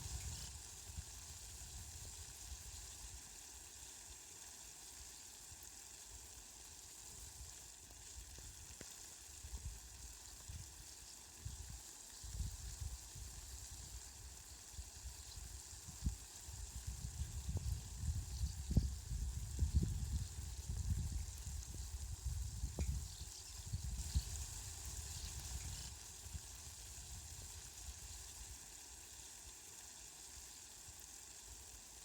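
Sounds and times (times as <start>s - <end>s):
faint rain hiss: 0.0s - 32.0s.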